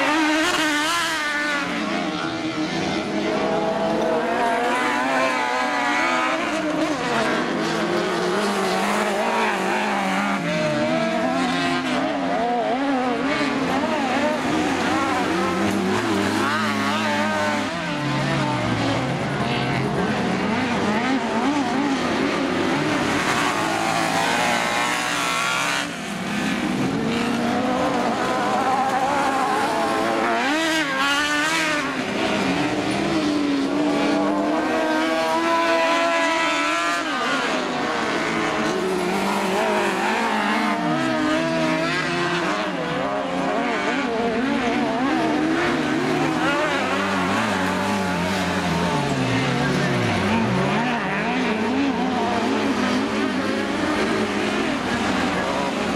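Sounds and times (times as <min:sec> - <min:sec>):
race car engines revving: 0:00.0 - 0:55.9.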